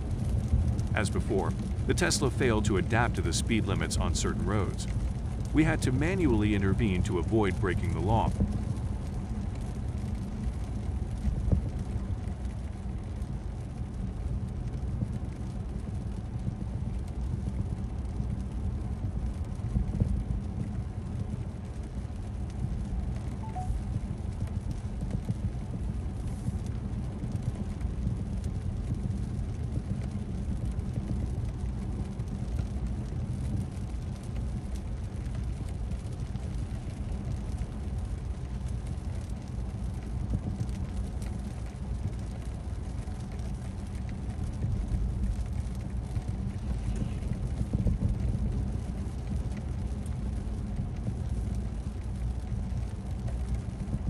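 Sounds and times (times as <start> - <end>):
road and tyre rumble in car: 8.4 - 23.4, 24.1 - 54.0.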